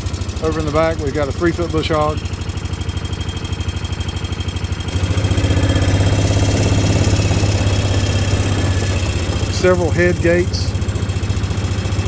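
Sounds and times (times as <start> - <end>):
vehicle engine throbbing: 0.0 - 12.0.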